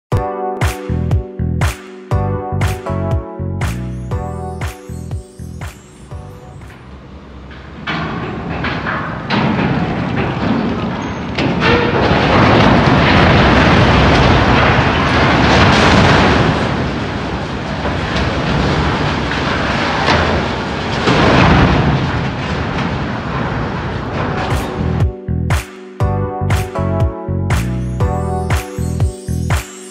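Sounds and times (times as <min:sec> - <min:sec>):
steel crane collapsing crash: 0:03.7 - 0:29.9.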